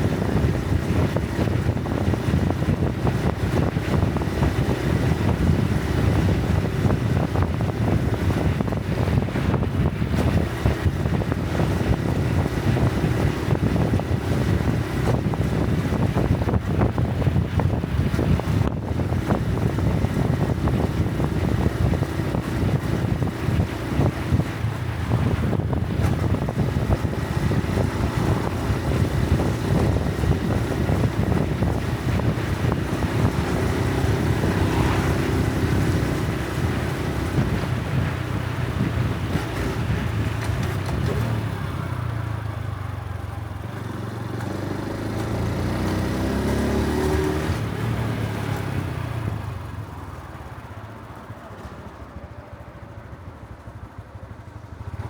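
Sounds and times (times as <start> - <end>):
wind on microphone: 0.0 - 42.8, 43.5 - 50.0
motorcycle engine running: 0.0 - 55.0.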